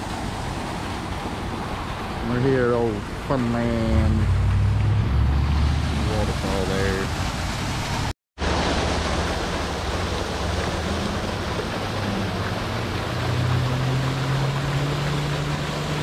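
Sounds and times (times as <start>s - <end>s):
waterfall rushing and splashing: 0.0s - 16.0s.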